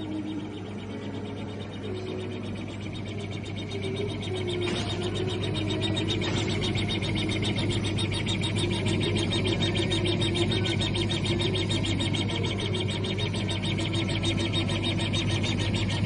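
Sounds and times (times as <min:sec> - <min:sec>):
laser head moving rhythmically: 0:00.0 - 0:16.0
machine hum: 0:00.0 - 0:16.0.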